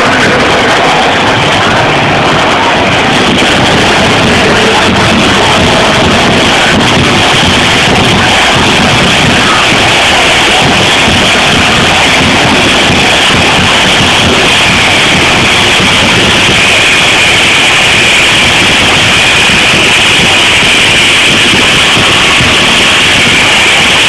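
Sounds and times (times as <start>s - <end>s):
stadium crowd din: 0.0s - 24.0s.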